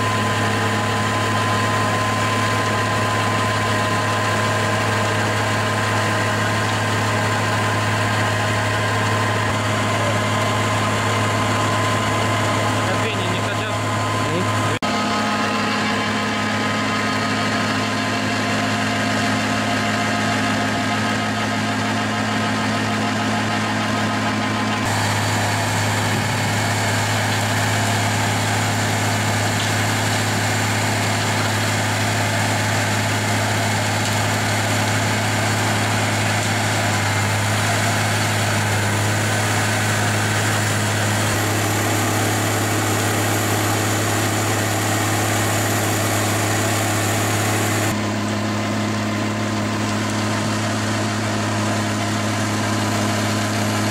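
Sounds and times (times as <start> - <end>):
mulcher shredding brush: 0.0 - 53.9
tractor engine under load: 0.0 - 53.9.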